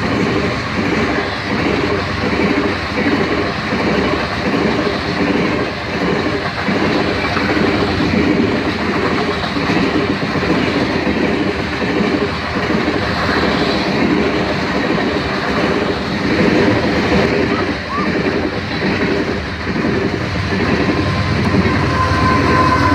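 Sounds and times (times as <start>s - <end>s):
train wheels clacking on rails: 0.0s - 22.9s.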